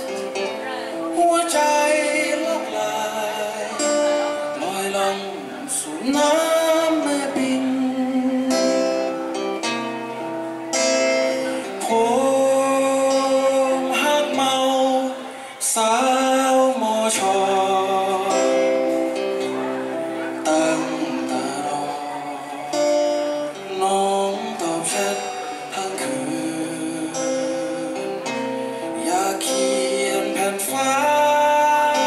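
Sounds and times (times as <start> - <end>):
man singing: 0.0 - 9.6, 10.8 - 32.0
acoustic guitar chords: 0.0 - 32.0.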